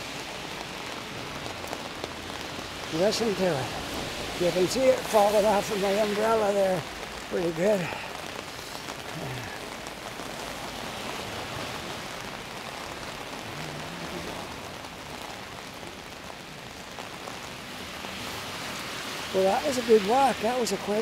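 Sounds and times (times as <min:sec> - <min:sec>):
heavy rain on umbrella: 0:00.0 - 0:21.0.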